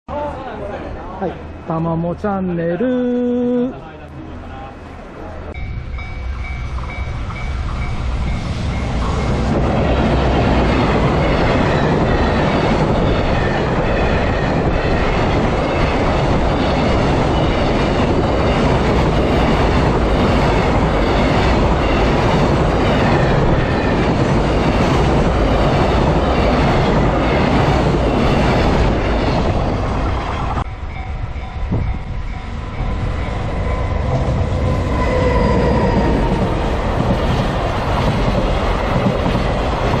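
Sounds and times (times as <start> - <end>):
freight train rumbling past: 0.1 - 40.0
crossing warning bell dinging: 1.2 - 29.8, 30.6 - 36.8.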